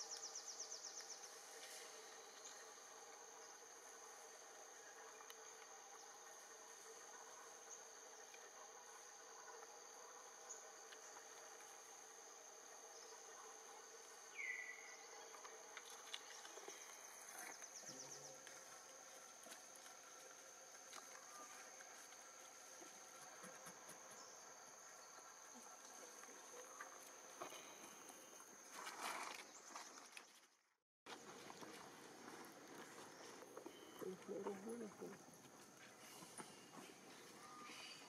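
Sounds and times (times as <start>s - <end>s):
insects chorus: 0.0s - 30.2s, 31.1s - 38.0s.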